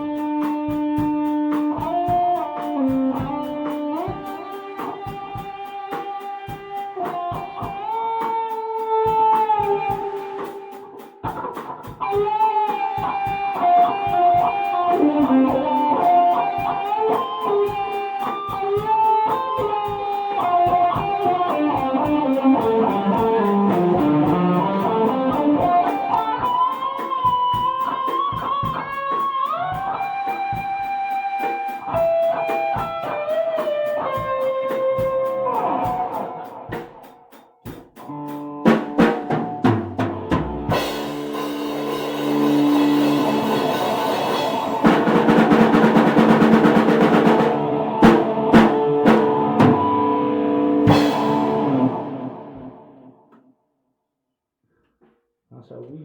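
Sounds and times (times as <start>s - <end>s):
electric guitar: 0.0s - 53.3s.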